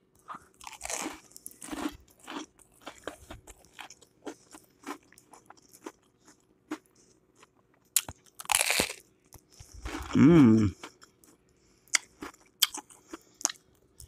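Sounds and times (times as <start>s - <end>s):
person chewing crunchy food: 0.1s - 14.0s.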